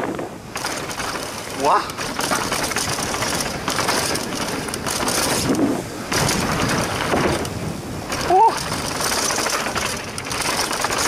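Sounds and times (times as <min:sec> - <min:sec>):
bike rattling: 0:00.0 - 0:11.0
tyres rolling over dirt and rocks: 0:00.0 - 0:11.0
freewheel ratchet clicking: 0:00.5 - 0:11.0.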